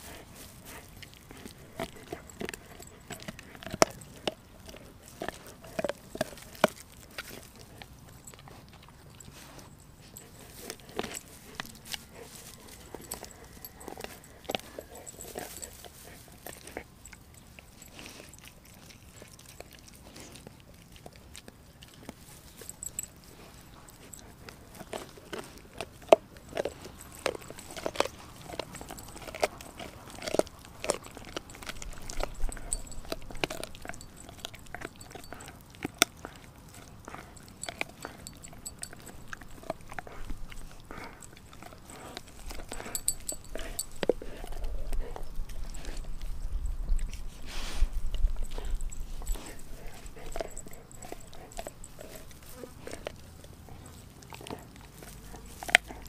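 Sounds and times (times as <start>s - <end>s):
dog chewing bone: 0.0s - 56.0s.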